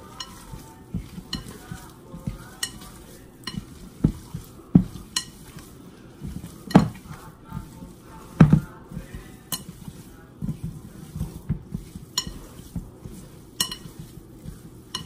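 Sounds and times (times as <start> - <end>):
hands kneading sticky dough: 0.0 - 15.0.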